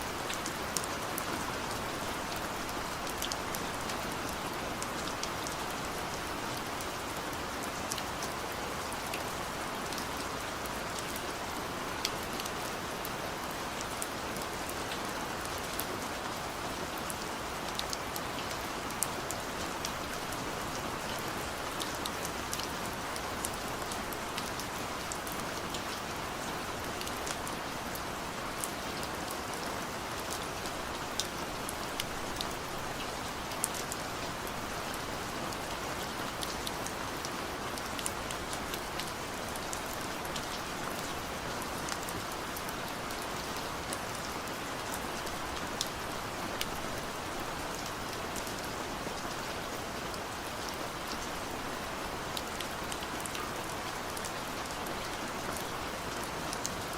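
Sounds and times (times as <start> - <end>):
steady rain hiss: 0.0 - 56.9.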